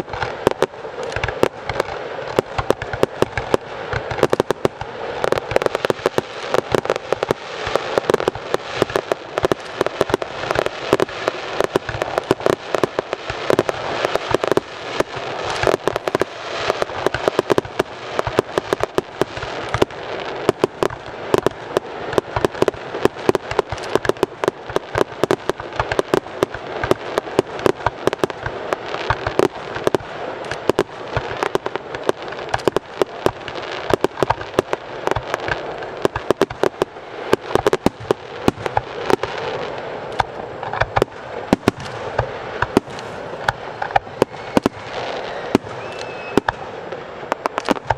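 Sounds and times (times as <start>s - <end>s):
fireworks banging rapidly: 0.0s - 47.9s.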